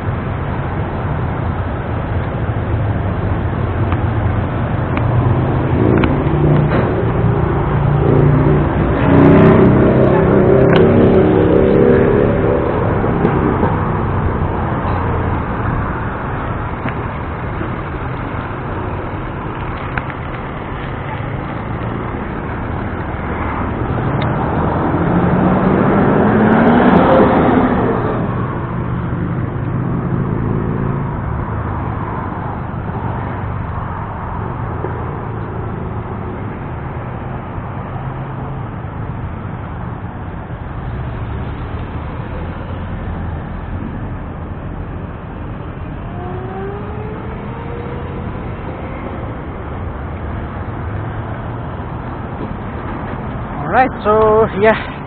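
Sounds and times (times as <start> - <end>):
road noise rush: 0.0 - 55.0
vehicle accelerating: 0.0 - 55.0
vehicle engine running close by: 0.0 - 55.0.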